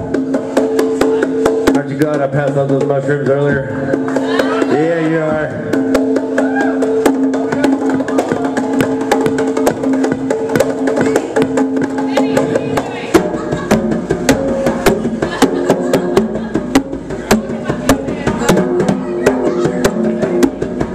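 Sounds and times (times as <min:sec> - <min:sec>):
band bass: 0:00.0 - 0:20.9
hand drums slapped fast: 0:00.0 - 0:20.9.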